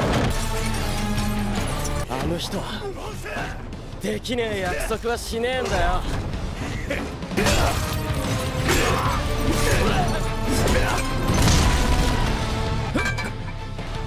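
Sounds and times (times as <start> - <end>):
dramatic background music: 0.0 - 14.0.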